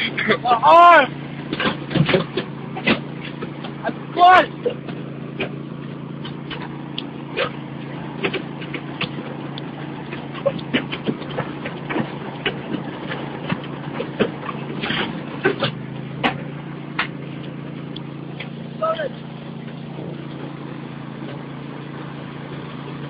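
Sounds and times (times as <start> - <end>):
lawn mower engine droning: 0.0 - 23.0
towed wagon clattering: 0.0 - 23.0.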